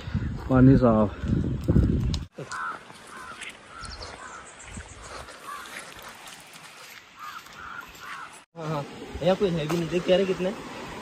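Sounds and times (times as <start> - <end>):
birds calling: 0.0 - 8.9.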